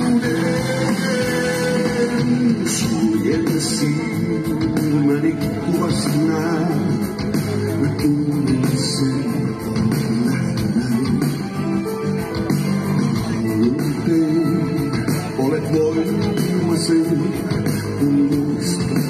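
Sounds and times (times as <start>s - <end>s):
bass guitar: 0.0s - 19.0s
drums: 0.0s - 19.0s
electric guitar: 0.0s - 19.0s
keyboards: 0.0s - 19.0s.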